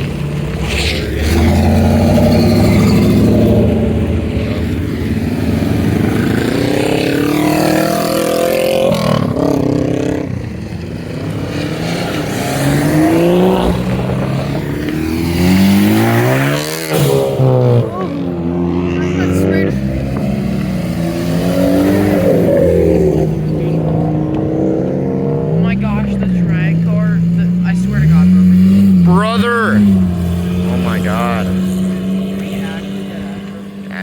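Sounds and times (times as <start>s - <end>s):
car engines accelerating past: 0.0s - 34.0s.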